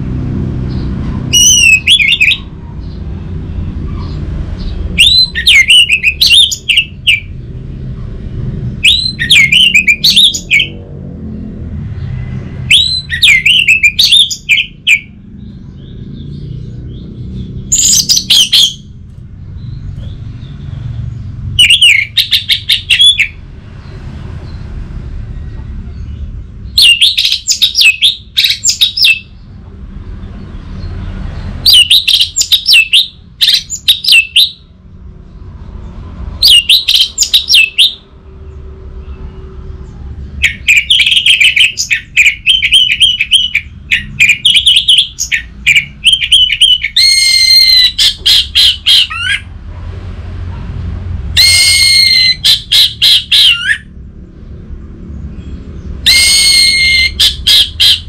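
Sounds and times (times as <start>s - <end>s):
thrush singing whistles and trills: 0.7s - 7.5s, 8.8s - 10.8s, 12.0s - 29.4s, 30.7s - 34.8s, 36.4s - 38.2s, 40.4s - 49.5s, 51.3s - 54.0s, 55.3s - 58.0s.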